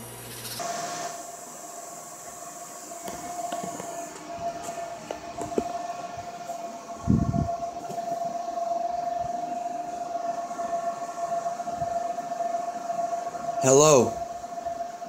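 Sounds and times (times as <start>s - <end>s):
steady electronic hum: 0.0s - 15.0s.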